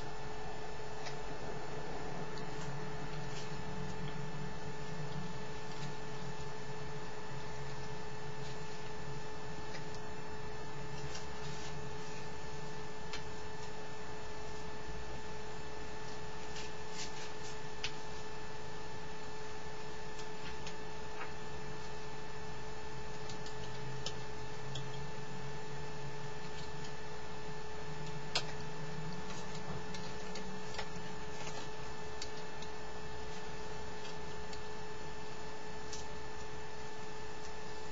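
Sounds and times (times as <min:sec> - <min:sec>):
electrical hum with whine: 0:00.0 - 0:37.9.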